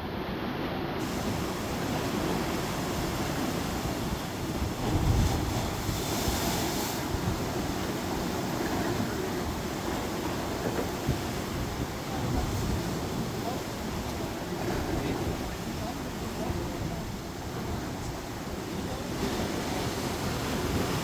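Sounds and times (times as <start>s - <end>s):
waves crashing on rocks: 0.1s - 21.0s.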